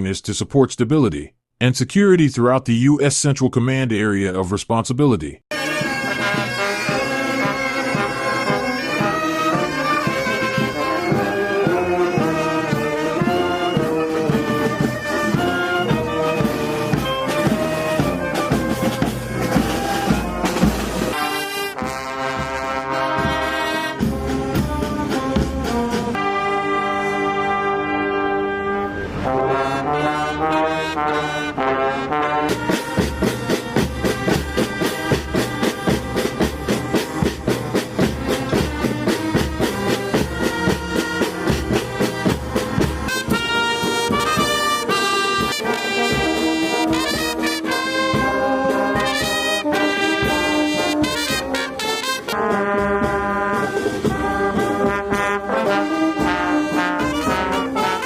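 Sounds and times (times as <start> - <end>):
brass music with pulsing beat: 5.5 - 58.0.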